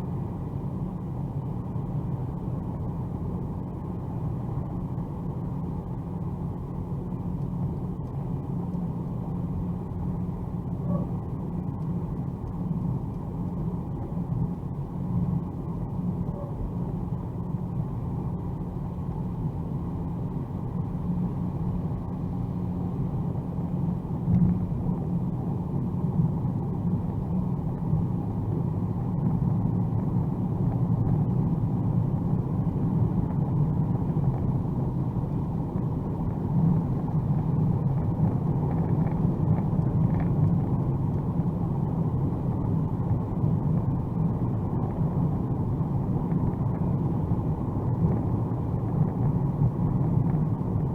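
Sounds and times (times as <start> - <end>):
car cabin road and engine rumble: 0.0 - 50.9.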